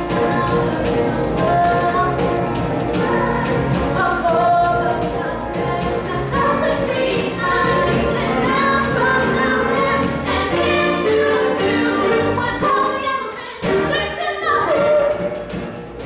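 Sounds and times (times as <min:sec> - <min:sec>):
cast singing together: 0:00.0 - 0:15.4
musical accompaniment with beat: 0:00.0 - 0:16.0.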